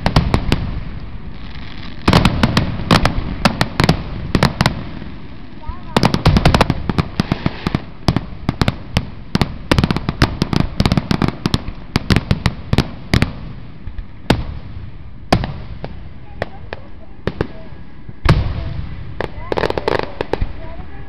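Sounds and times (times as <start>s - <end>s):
fireworks bangs and cracks: 0.0s - 21.0s.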